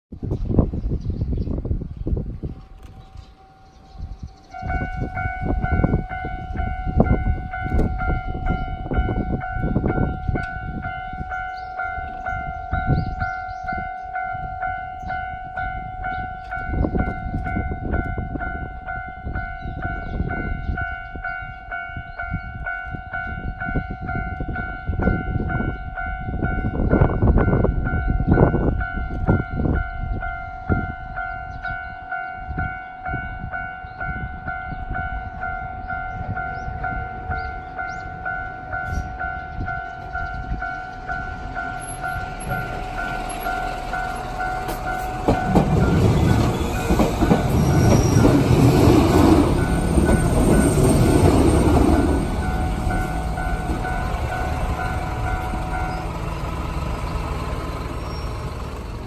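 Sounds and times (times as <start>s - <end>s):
passing train: 0.1s - 59.0s
level crossing warning bell: 2.4s - 59.0s.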